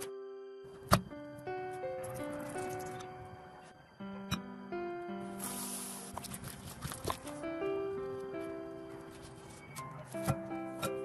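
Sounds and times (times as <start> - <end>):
music of held steady notes: 0.0 - 11.0.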